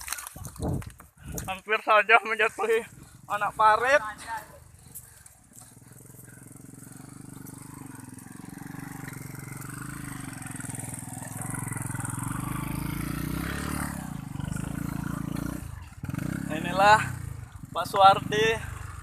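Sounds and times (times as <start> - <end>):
motorcycle engine running hard: 2.3 - 19.0.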